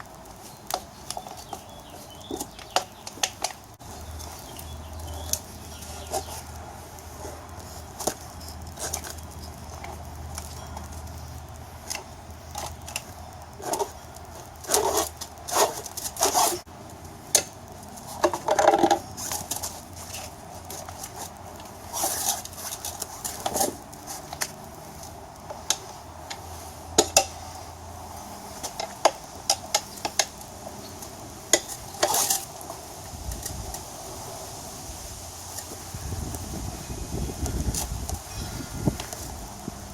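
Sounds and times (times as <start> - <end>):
tire irons clinking on wheel rim: 0.0 - 39.9.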